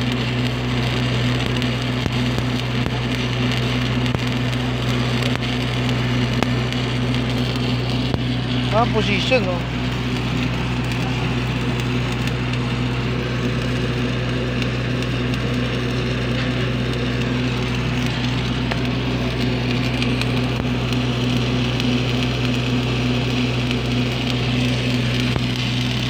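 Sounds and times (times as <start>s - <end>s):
steady low hum: 0.0s - 26.0s
welding arc crackling: 0.0s - 26.0s.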